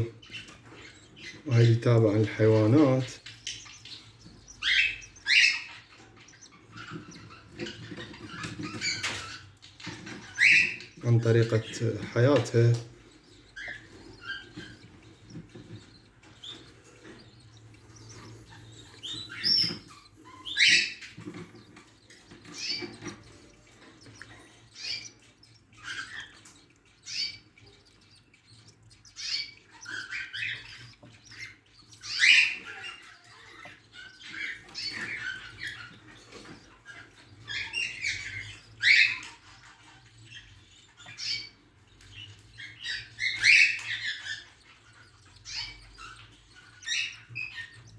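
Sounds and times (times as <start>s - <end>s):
budgerigars chirping and squawking: 0.0s - 47.9s.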